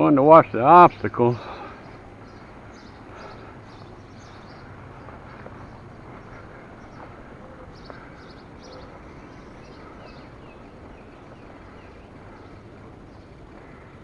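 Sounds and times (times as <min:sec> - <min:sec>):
outdoor background noise: 0:00.0 - 0:14.0
small birds chirping: 0:00.0 - 0:14.0.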